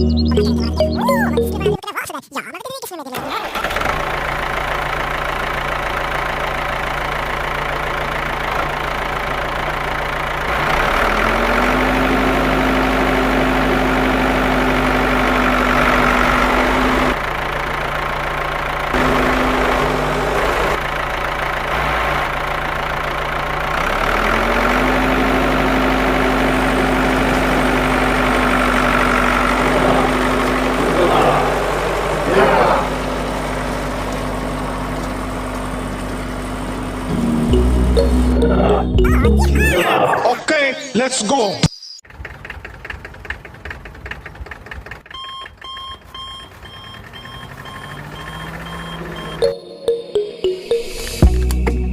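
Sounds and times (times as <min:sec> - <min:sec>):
engine running: 0:00.0 - 0:01.8, 0:03.2 - 0:39.7, 0:42.1 - 0:51.9.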